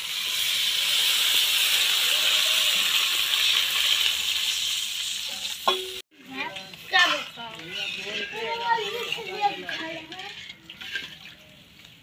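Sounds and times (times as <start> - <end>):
water sizzling in hot oil: 0.0 - 11.2.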